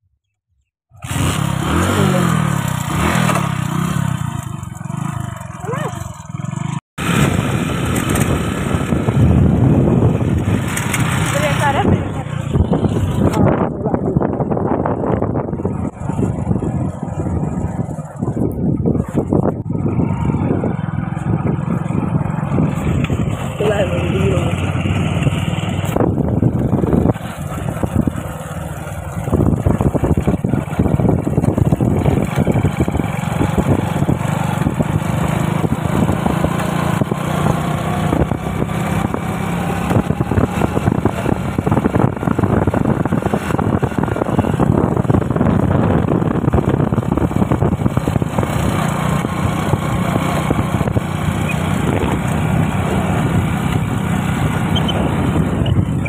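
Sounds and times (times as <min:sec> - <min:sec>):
motorcycle engine running: 0:00.9 - 0:56.0
wind rushing over microphone: 0:06.6 - 0:56.0.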